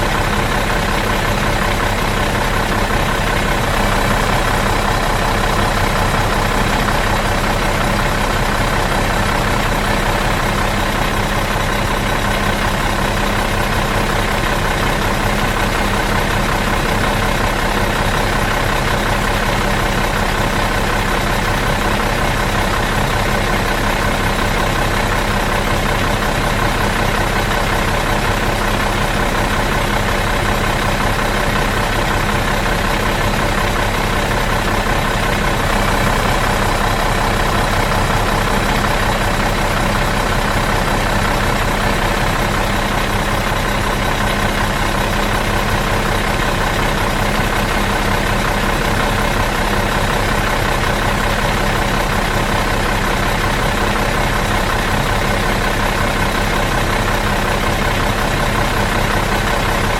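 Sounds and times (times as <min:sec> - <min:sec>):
bus engine idling: 0:00.0 - 0:59.9.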